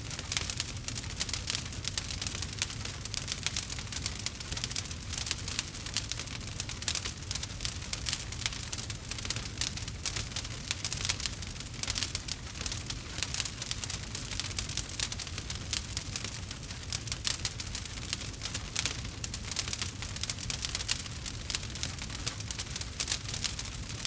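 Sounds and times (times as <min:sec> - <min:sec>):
low rumble of flames: 0:00.0 - 0:24.0
burning wood popping and snapping: 0:00.1 - 0:24.0.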